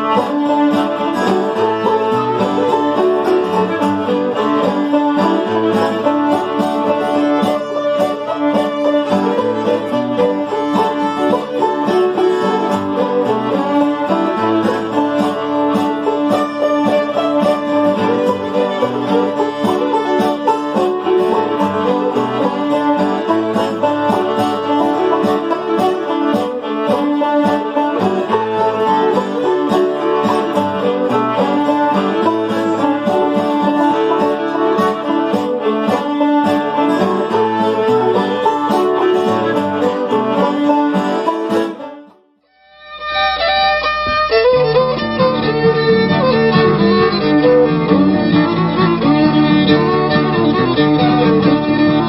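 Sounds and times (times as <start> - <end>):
old archival fiddle recording: 0.0 - 52.0
string trio playing fiddle tune: 0.0 - 52.0.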